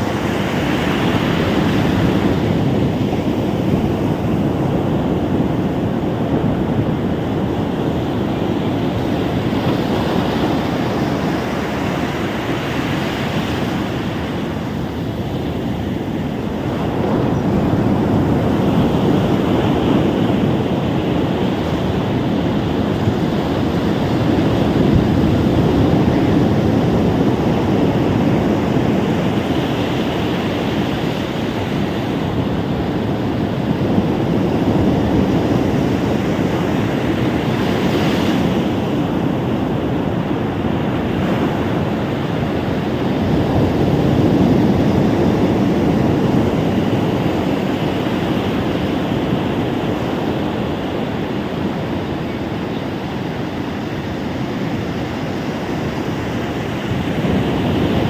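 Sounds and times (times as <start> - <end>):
ocean waves on beach: 0.0 - 58.0.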